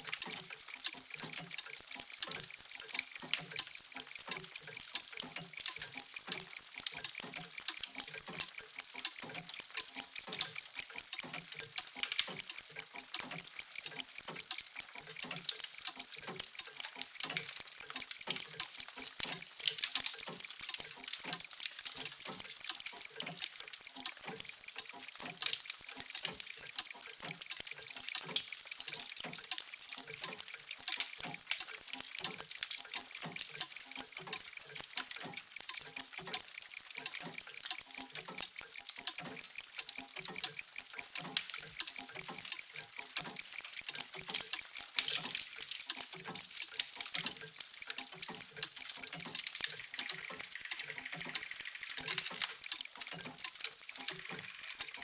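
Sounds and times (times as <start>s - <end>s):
mechanical clocks ticking: 0.0s - 55.0s.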